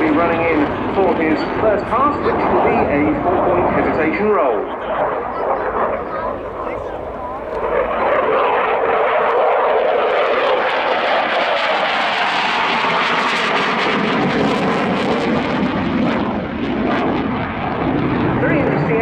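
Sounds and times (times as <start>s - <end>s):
jet engine passing: 0.0s - 19.0s.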